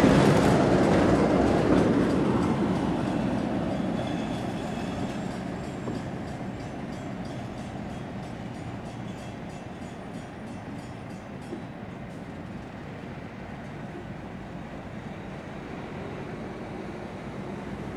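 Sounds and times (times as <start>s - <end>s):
diesel locomotive engine: 0.0s - 17.9s
train wheels on rails: 0.0s - 17.9s.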